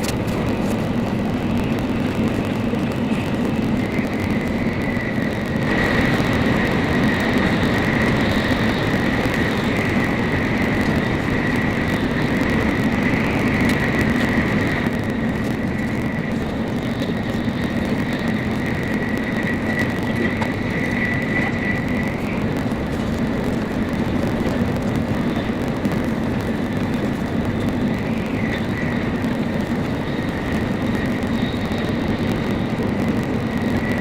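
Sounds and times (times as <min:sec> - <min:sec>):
high train whine: 0:00.0 - 0:34.0
train rumble inside cabin: 0:00.0 - 0:34.0.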